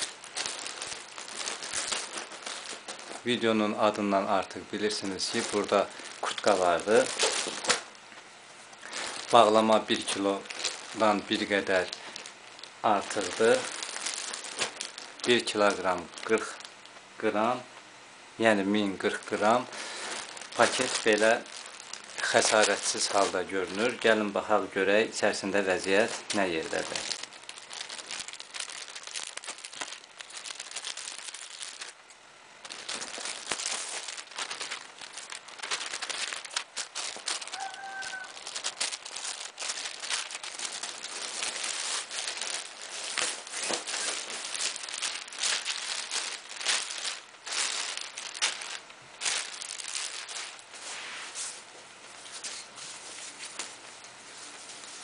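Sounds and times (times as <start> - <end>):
plastic packaging crinkling: 0.0 - 17.6, 18.5 - 55.0.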